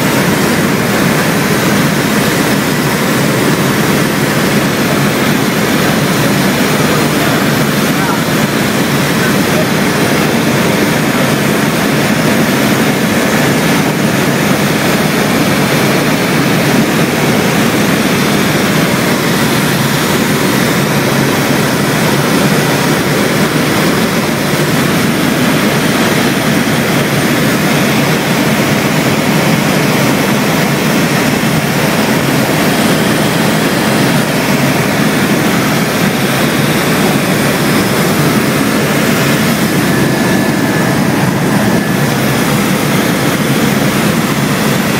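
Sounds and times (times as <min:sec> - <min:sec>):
aircraft cabin engine and air noise: 0:00.0 - 0:44.9.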